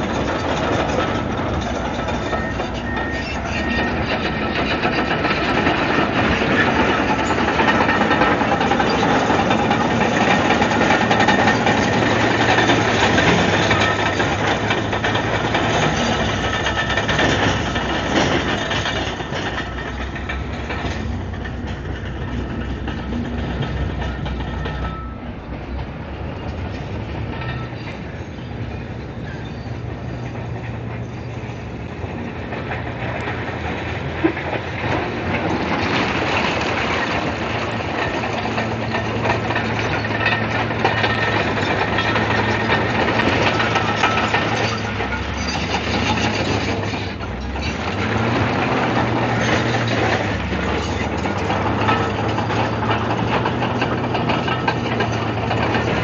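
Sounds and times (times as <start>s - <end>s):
bulldozer diesel engine: 0.0s - 56.0s
steel tracks clanking: 0.0s - 56.0s.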